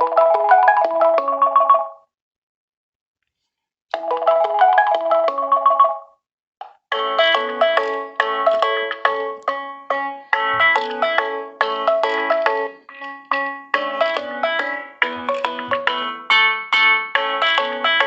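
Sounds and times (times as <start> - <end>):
phone ringtone melody: 0.0 - 2.0, 4.0 - 6.2, 6.9 - 18.0
fuller ringtone melody: 0.0 - 2.1, 4.0 - 6.2, 6.9 - 18.0.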